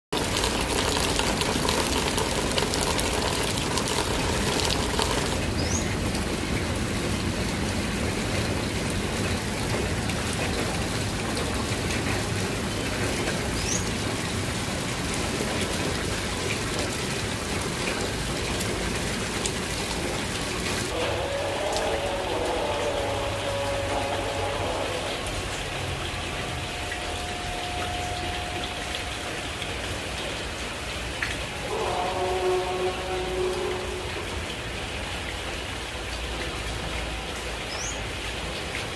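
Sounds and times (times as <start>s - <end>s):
light rain drizzling: 0.1s - 38.9s.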